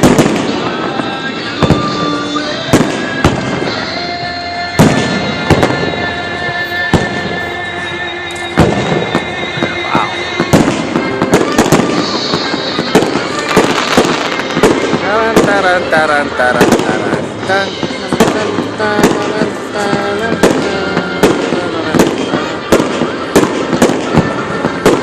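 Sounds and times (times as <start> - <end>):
fireworks bangs: 0.0 - 25.0
music: 0.0 - 25.0.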